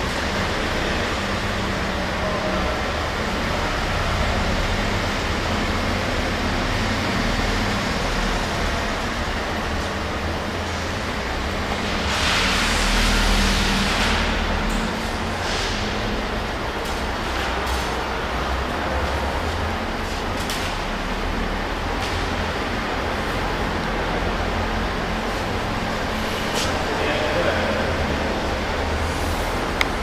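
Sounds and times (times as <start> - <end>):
continuous rumble: 0.0 - 30.0
low mechanical hum: 0.0 - 30.0.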